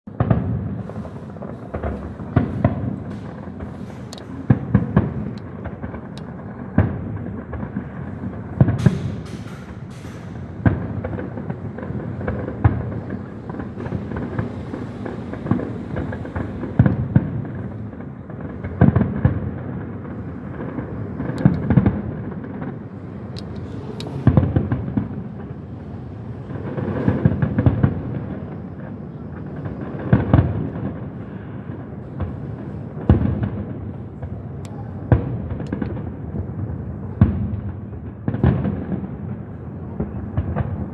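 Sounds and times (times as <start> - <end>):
fireworks booming: 0.1 - 40.9
fireworks cracking: 0.1 - 40.9.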